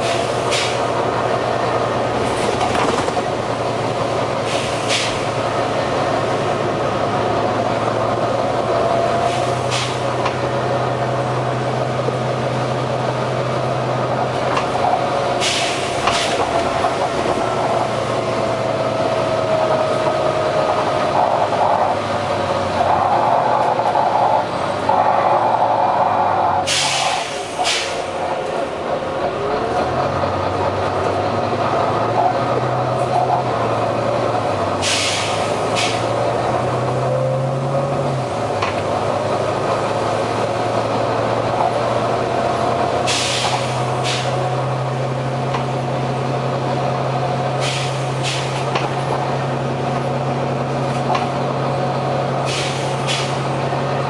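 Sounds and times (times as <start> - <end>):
bus diesel engine droning: 0.0 - 54.0
engine hissing: 0.0 - 54.0.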